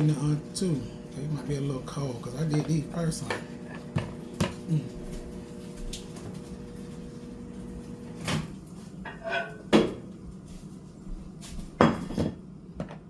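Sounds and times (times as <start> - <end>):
steady hum: 0.0 - 11.8.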